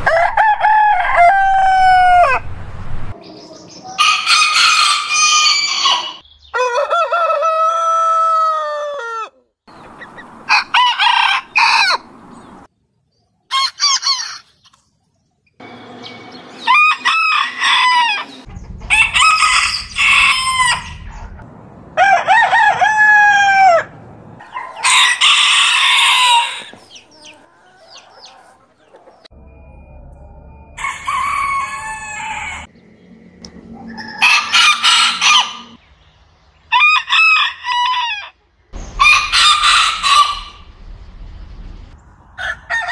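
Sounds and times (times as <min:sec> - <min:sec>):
roosters crowing: 0:00.0 - 0:03.2, 0:03.9 - 0:09.4, 0:10.0 - 0:12.7, 0:13.5 - 0:14.6, 0:15.6 - 0:29.3, 0:30.8 - 0:32.8, 0:33.5 - 0:35.8, 0:36.6 - 0:40.8, 0:42.2 - 0:42.9.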